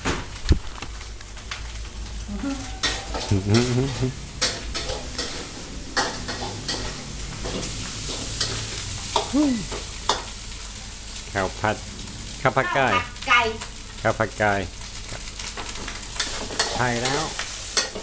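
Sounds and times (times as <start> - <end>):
sizzling in hot oil: 0.0 - 18.0.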